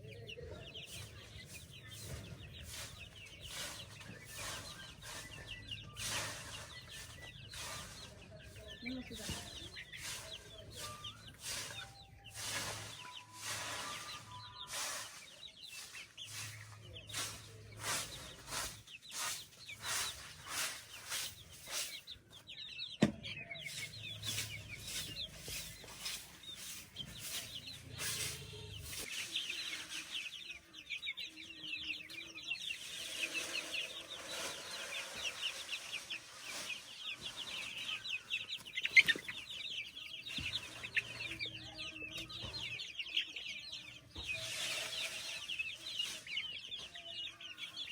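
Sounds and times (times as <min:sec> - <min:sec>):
chickens clucking and calling: 0:00.0 - 0:47.9
rustling scraping strokes: 0:00.9 - 0:22.1, 0:23.6 - 0:30.8, 0:32.5 - 0:41.3, 0:44.2 - 0:46.6.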